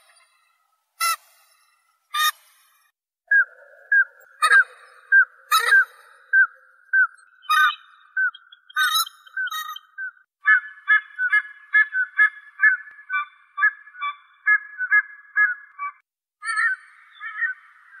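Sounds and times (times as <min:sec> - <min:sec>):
duck piping whistled calls: 0:03.3 - 0:18.0
rough bird calls: 0:03.3 - 0:18.0.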